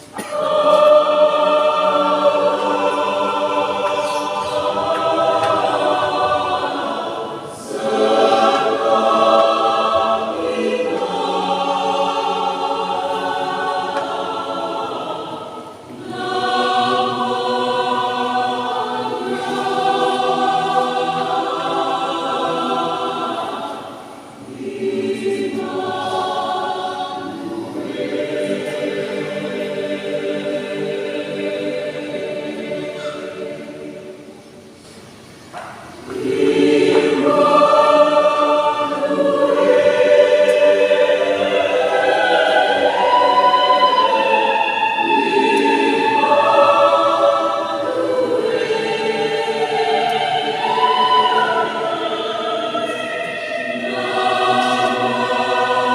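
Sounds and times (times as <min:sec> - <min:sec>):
youth choir singing: 0:00.0 - 0:55.9.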